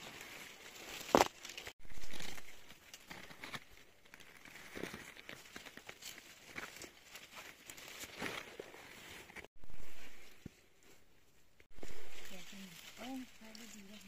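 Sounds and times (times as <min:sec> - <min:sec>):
rustling and crackling: 0:00.0 - 0:14.0.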